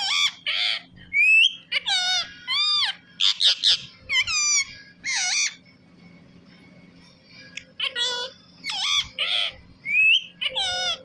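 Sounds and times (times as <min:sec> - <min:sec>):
parakeet whistling and calling: 0:00.0 - 0:05.8, 0:07.4 - 0:11.0.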